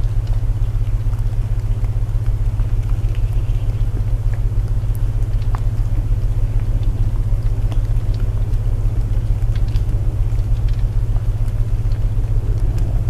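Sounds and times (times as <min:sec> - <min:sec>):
rain hiss: 0:00.0 - 0:13.0
wood fire crackling: 0:00.0 - 0:13.0.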